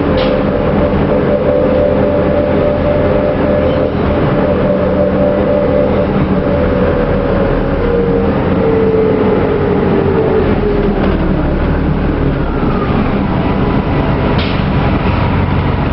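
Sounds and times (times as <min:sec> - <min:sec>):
drivetrain whine falling in pitch: 0:00.0 - 0:13.2
bus engine rumble: 0:00.0 - 0:15.9.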